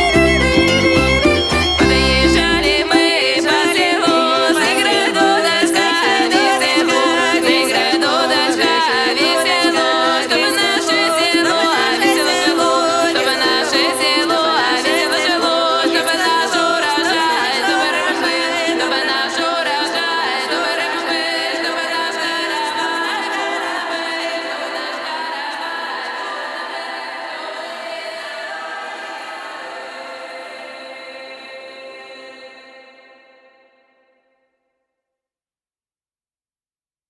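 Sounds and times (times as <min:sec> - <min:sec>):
music with singing voices: 0:00.0 - 0:33.6.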